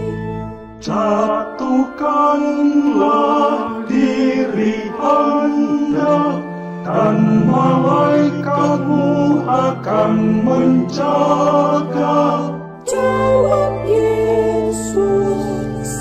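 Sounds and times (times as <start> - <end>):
low held accompaniment notes: 0.0 - 16.0
people singing a hymn: 0.0 - 16.0.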